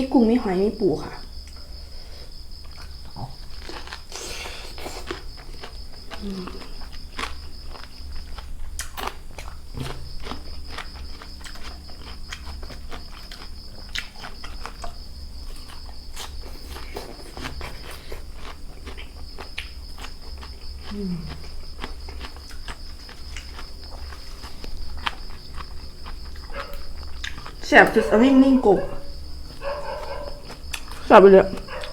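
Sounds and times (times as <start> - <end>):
high insect trill: 0.0 - 31.9
person crunching and chewing: 2.6 - 27.6, 29.1 - 31.9.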